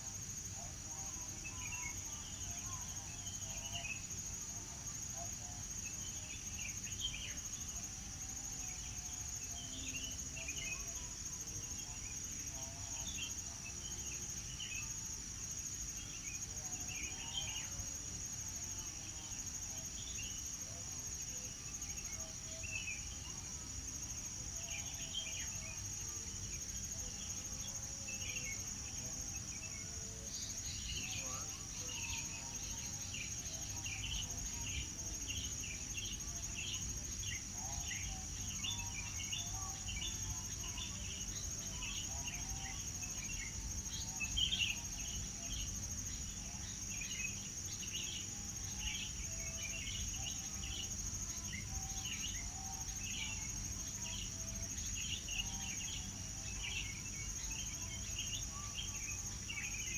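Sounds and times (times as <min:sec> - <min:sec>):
high-pitched insect drone: 0:06.4 - 0:59.9.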